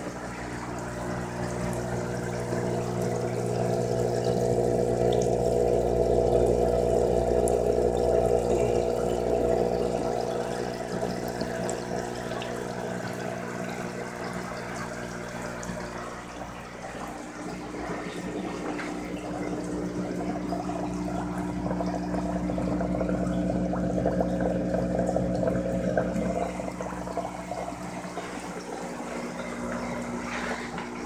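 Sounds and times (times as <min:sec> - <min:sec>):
steady low hum: 0:00.0 - 0:31.0
water splashing into tubs: 0:00.0 - 0:31.0.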